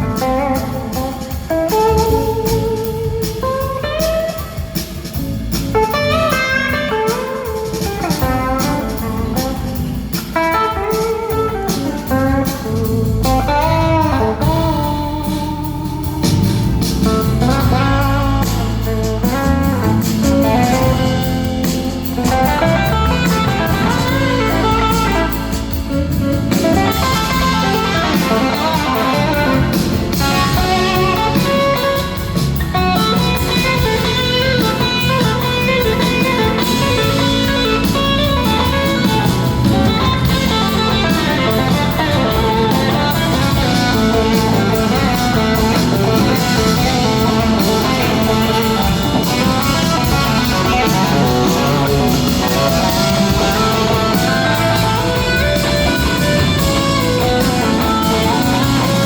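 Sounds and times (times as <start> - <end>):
blues-rock band playing: 0.0 - 59.0
electric guitar lead bending notes: 0.0 - 59.0.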